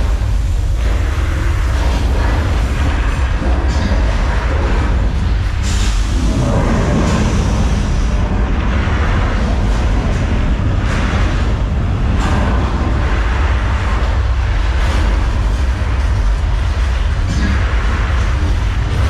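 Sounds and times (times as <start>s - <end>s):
crashing and rushing noise: 0.0s - 19.0s
deep earthquake rumble: 0.0s - 19.0s.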